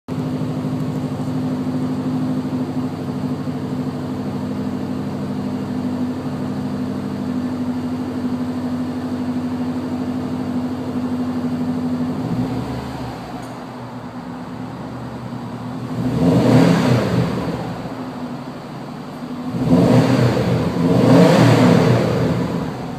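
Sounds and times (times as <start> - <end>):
car engine idling: 0.1 - 22.9.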